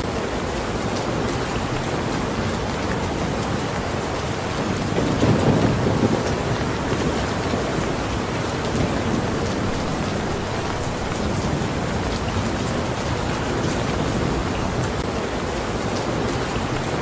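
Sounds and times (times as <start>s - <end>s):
rain falling: 0.0s - 17.0s
raindrop taps: 1.0s - 15.1s.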